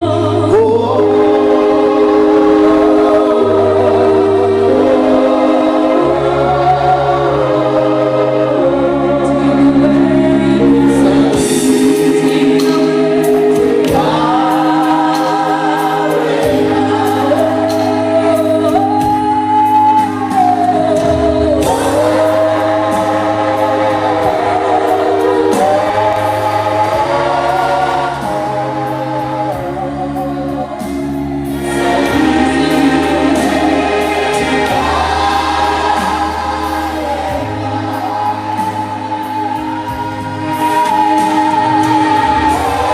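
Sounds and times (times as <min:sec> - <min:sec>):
gospel choir singing: 0:00.0 - 0:42.9.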